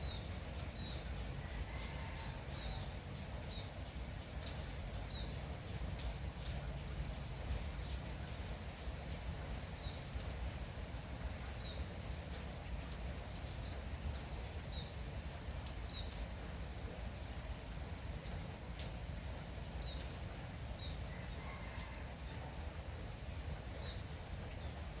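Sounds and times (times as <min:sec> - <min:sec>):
light drizzle: 0:00.0 - 0:25.0.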